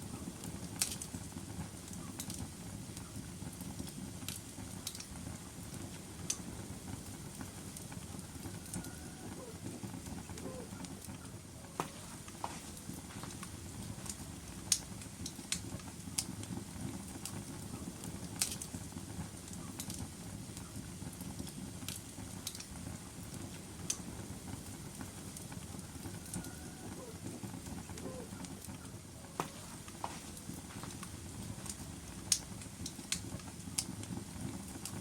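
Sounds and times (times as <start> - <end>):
fire crackling and popping: 0.0 - 35.0
log fire rumbling: 0.0 - 35.0.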